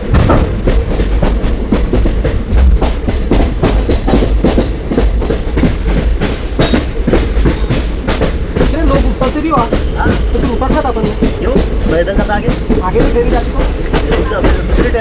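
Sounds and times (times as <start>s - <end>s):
train rumbling on track: 0.0s - 15.0s
wheels clattering over rails: 0.0s - 15.0s.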